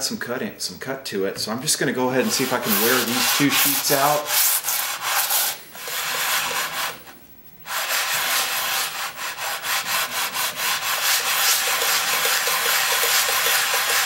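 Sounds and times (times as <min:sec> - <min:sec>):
plane scraping on wet sandpaper: 0:02.1 - 0:07.1, 0:07.7 - 0:14.0.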